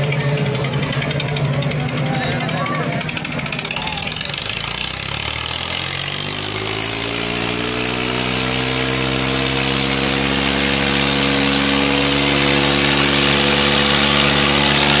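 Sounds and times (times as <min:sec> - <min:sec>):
tractor diesel engines straining: 0:00.0 - 0:15.0.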